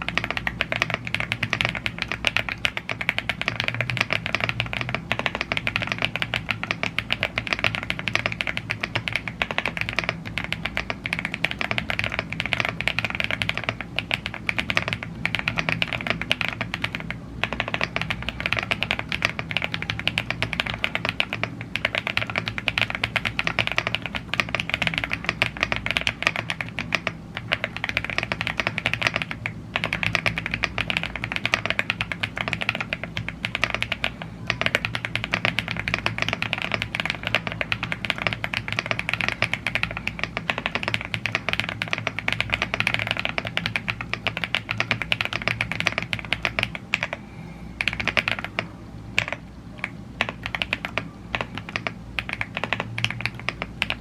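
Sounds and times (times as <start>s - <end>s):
mechanical keyboard typing: 0.0s - 47.2s, 47.8s - 54.0s.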